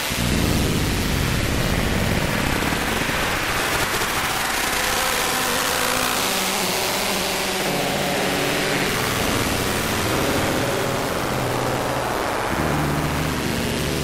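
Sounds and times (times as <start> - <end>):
electronic noise music: 0.0 - 14.0.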